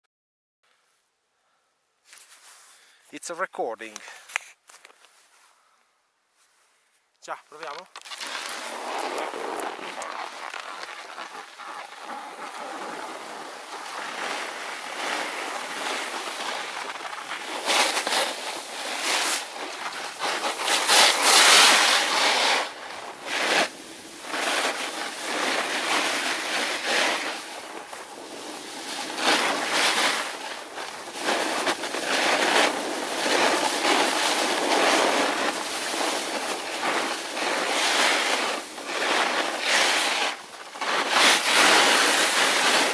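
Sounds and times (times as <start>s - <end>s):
snowboard scraping on snow: 7.6s - 42.9s.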